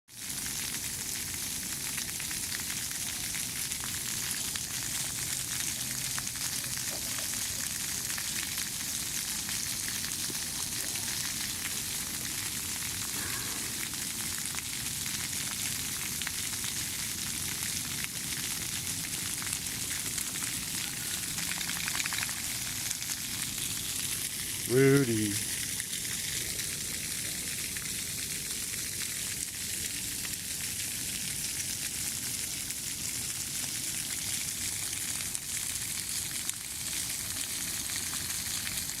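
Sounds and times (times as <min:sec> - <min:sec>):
water spraying from jets: 0:00.2 - 0:39.0.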